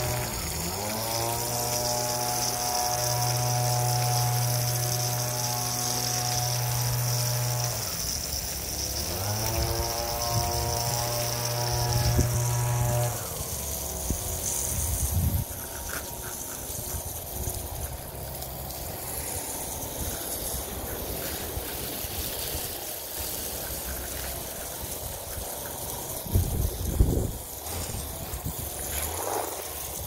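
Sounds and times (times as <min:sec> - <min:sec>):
hose spraying water on soil: 0:00.0 - 0:30.0
mechanical hum: 0:00.0 - 0:30.0.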